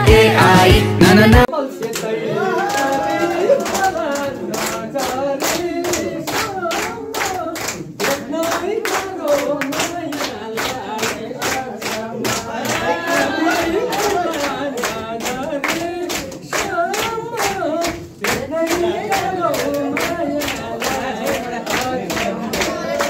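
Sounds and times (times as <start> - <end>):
group of people singing: 0.0 - 23.0
rhythmic clapping: 0.0 - 23.0.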